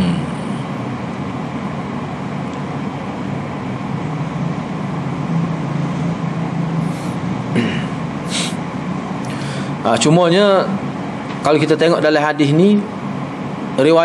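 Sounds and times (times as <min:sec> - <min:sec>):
steady hum and hiss: 0:00.0 - 0:14.0.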